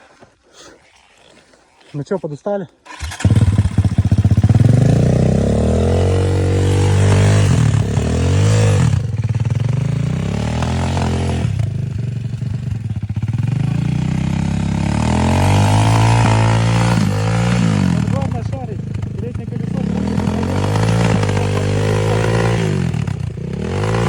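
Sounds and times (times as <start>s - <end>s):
motorcycle engine revving: 2.8s - 24.0s.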